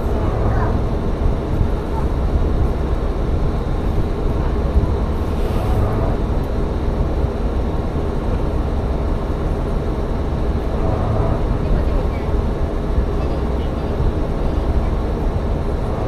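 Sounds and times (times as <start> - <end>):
diesel railcar running: 0.0 - 16.0.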